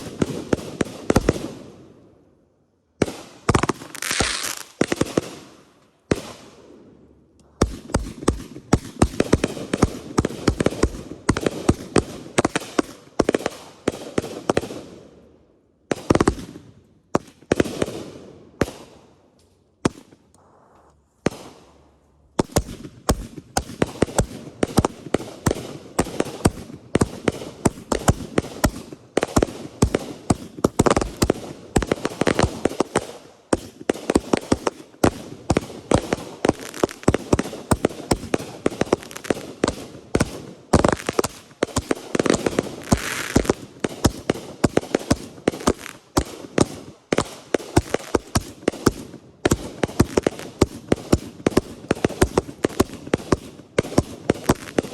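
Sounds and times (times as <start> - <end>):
fireworks bangs and crackles: 0.0 - 2.0, 3.0 - 15.2, 15.8 - 19.2, 19.8 - 20.2, 21.2 - 54.9.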